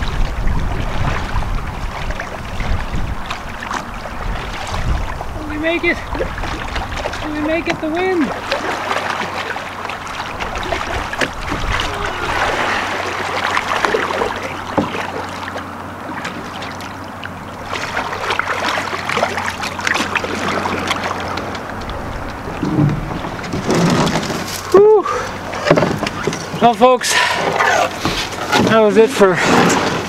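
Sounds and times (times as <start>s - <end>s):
canoe paddle strokes in water: 0.0s - 30.0s
water lapping against hull: 0.0s - 30.0s.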